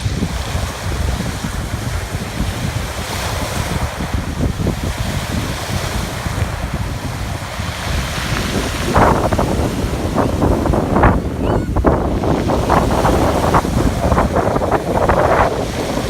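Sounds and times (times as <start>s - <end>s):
waves washing onto shore: 0.0s - 16.0s
wind buffeting microphone: 0.0s - 16.0s.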